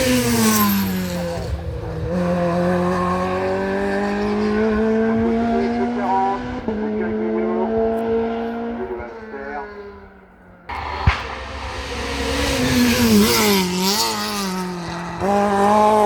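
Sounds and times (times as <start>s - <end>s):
race car engine passing: 0.0s - 16.0s.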